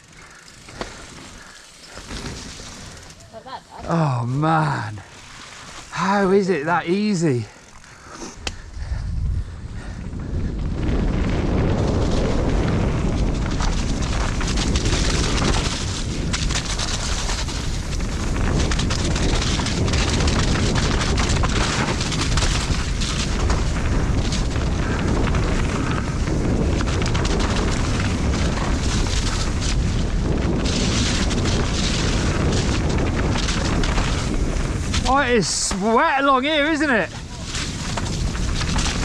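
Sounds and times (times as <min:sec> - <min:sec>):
bike rattles and knocks: 0:00.0 - 0:04.0, 0:10.7 - 0:39.0
bike tyre noise: 0:00.0 - 0:39.0
wind rumbling on microphone: 0:00.0 - 0:39.0.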